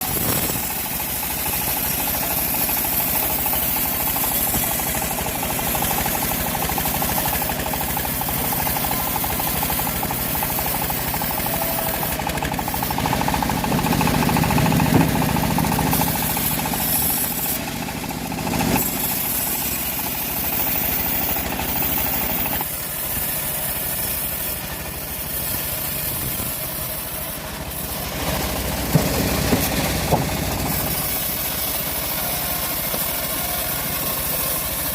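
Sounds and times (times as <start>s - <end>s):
band sawmill cutting log: 0.0s - 34.9s.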